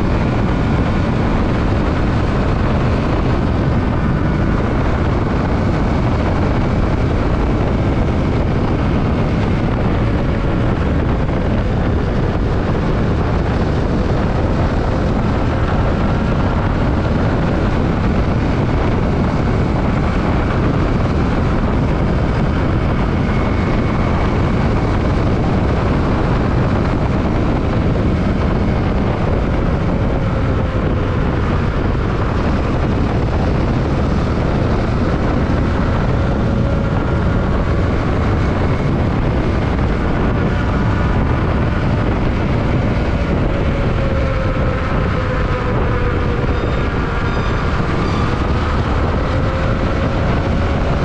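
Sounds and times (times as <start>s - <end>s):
faint motorcycle engine: 0.0s - 51.0s
wind rushing over microphone: 0.0s - 51.0s.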